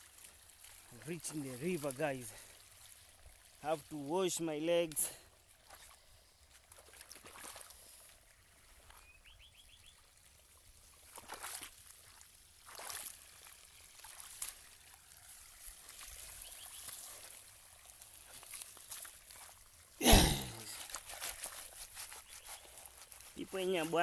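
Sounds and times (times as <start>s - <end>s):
river water trickling: 0.0s - 24.0s.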